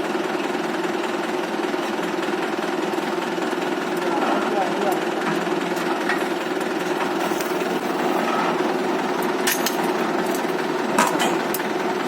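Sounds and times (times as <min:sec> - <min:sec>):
diesel tractor engine rattling: 0:00.0 - 0:12.0.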